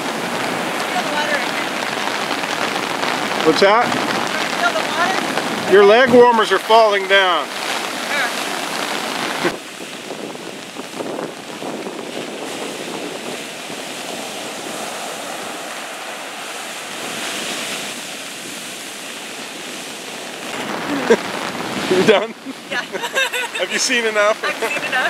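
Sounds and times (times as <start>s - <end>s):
heavy surf waves breaking: 0.0s - 25.0s.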